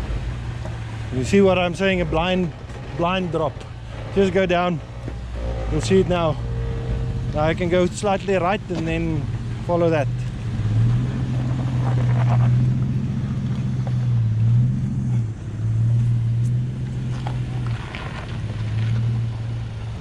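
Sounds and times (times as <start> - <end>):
vehicle engine at low revs: 0.0 - 20.0.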